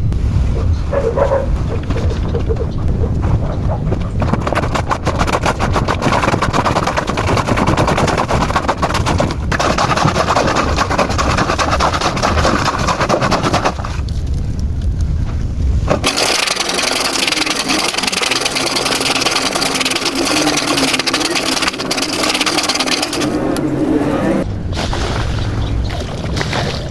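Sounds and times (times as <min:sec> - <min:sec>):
laundry churning and sloshing in water: 0:03.0 - 0:14.1, 0:15.8 - 0:26.9.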